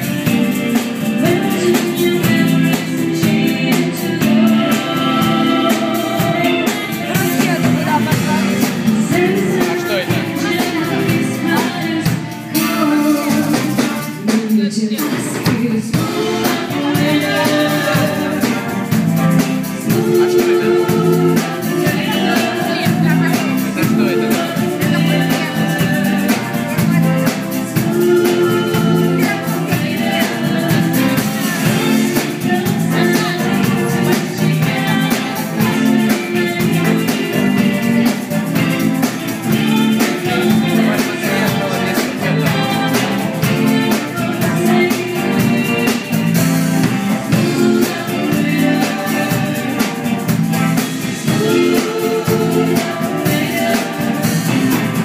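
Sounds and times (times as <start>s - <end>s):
drum kit: 0.0s - 55.0s
electric bass guitar: 0.0s - 55.0s
person singing: 0.0s - 55.0s.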